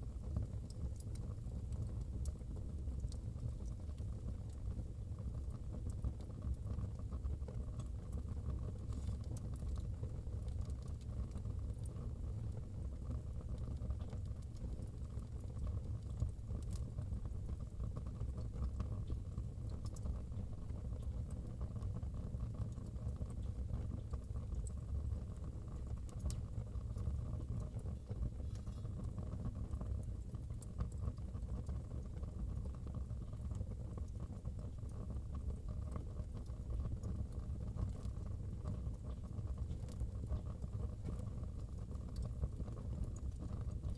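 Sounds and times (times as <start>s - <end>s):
fire crackling and popping: 0.0s - 43.9s.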